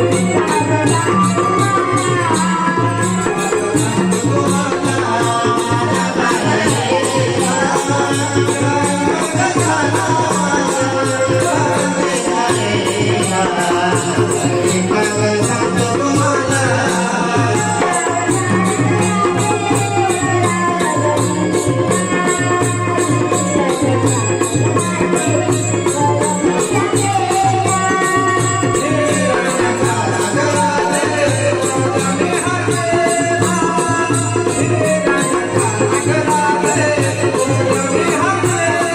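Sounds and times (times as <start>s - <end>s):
drum rhythm: 0.0s - 38.9s.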